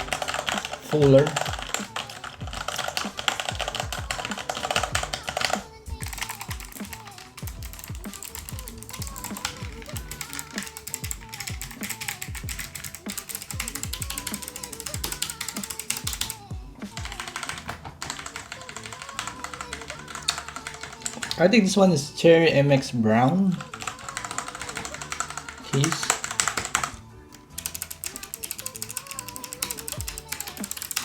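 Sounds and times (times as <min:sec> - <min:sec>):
fast mechanical keyboard typing: 0:00.0 - 0:21.6, 0:23.5 - 0:31.0.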